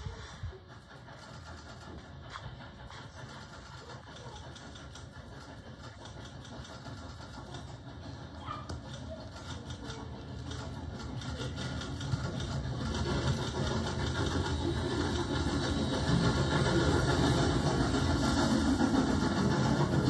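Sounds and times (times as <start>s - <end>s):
steam locomotive passing: 0.0s - 20.0s.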